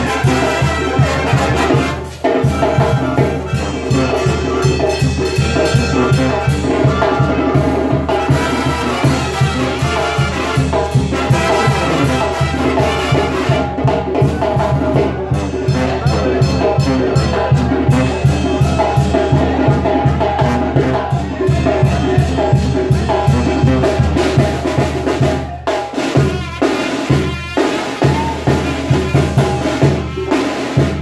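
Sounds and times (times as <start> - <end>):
bass drum steady beat: 0.0 - 31.0
trombones: 0.0 - 31.0
trumpets: 0.0 - 31.0
tuba: 0.0 - 31.0.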